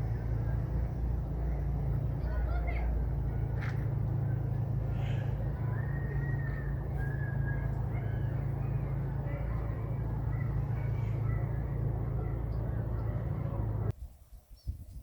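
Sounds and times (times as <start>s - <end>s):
low rumble: 0.0s - 13.9s
birds calling and whistling: 1.3s - 13.9s.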